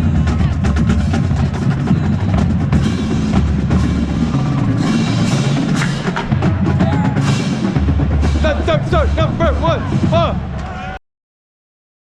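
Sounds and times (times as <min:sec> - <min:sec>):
bass drums: 0:00.0 - 0:10.6
snare drums: 0:00.0 - 0:10.6.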